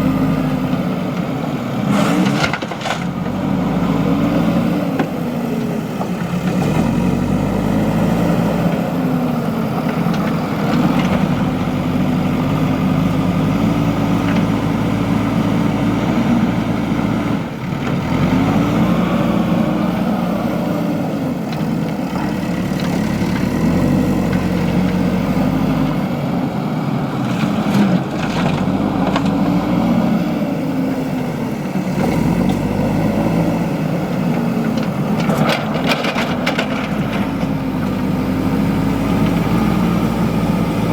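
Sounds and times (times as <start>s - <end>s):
backhoe diesel engine working: 0.0s - 40.9s.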